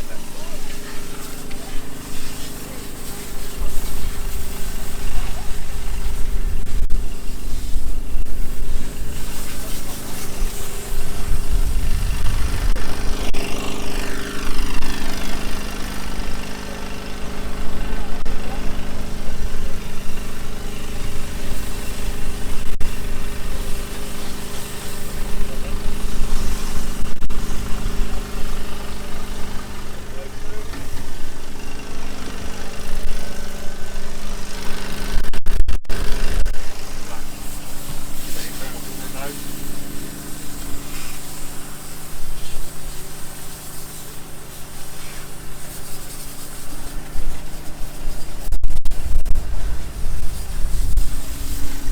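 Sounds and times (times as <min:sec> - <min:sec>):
constant hiss: 0:00.0 - 0:34.8, 0:35.9 - 0:51.9
large engine running: 0:00.0 - 0:51.9.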